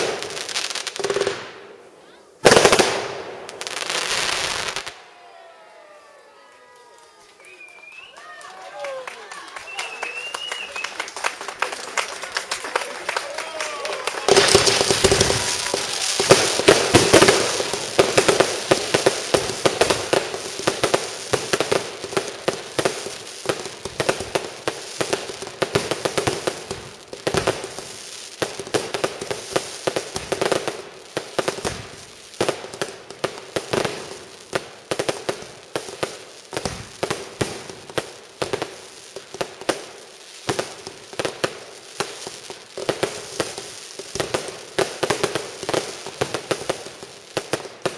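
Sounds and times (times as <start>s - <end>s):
fireworks popping and cracking: 0.0s - 1.6s, 2.4s - 5.0s, 9.7s - 47.9s.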